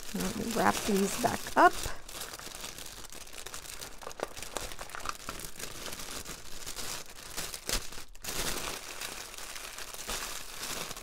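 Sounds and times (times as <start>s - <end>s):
plastic bags crinkling and rustling: 0.0s - 11.0s.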